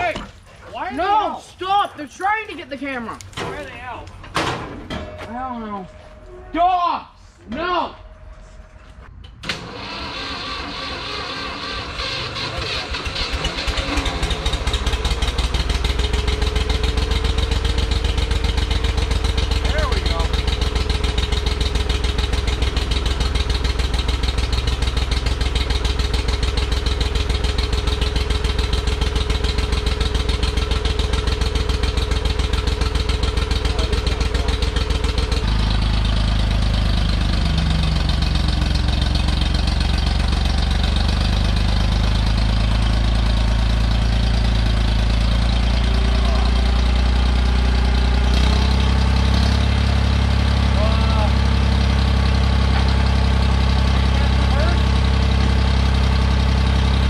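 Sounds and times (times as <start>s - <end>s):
tractor engine running: 0.0s - 6.5s, 7.4s - 57.0s.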